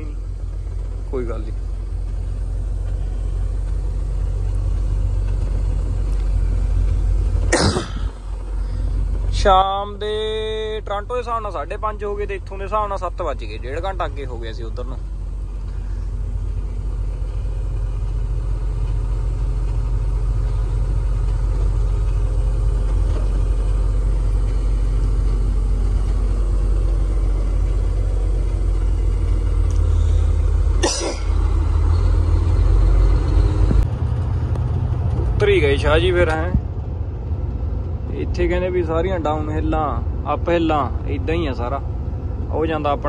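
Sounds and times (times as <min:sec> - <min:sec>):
truck diesel engine accelerating: 0:00.0 - 0:43.0.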